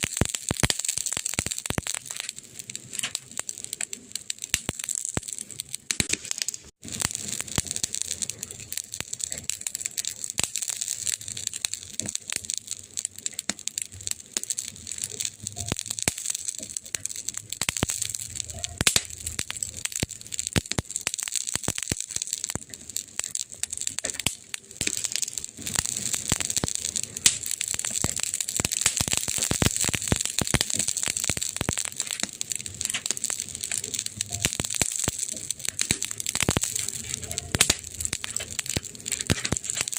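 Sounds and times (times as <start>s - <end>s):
burning wood crackling: 0.0s - 39.9s.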